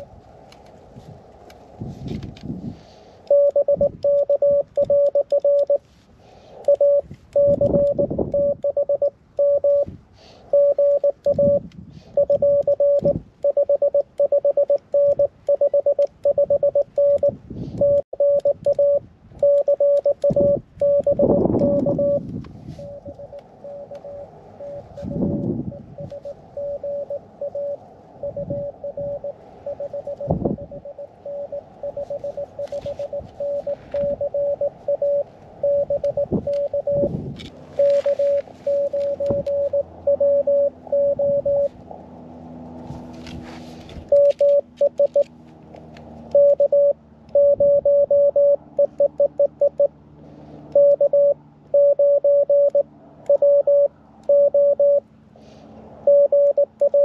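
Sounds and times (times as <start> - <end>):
morse code tones: 3.2 - 41.8, 42.9 - 45.3, 46.3 - 50.0, 50.7 - 55.1, 56.0 - 57.0.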